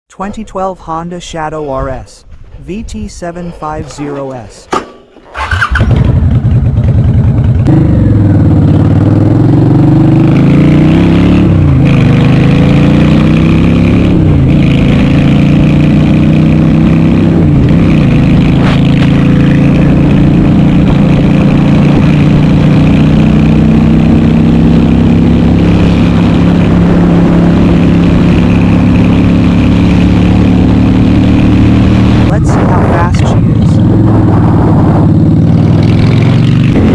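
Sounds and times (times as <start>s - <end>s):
motorcycle engine accelerating: 5.2s - 36.9s.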